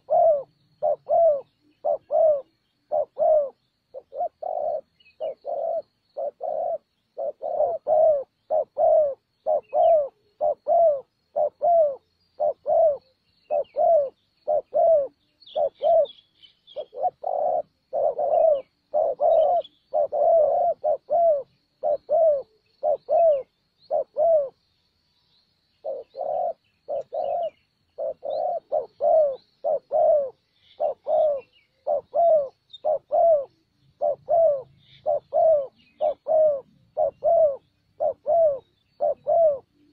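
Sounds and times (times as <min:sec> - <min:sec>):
doves cooing: 0:00.0 - 0:24.7, 0:25.8 - 0:39.9
small birds chirping: 0:00.0 - 0:39.9.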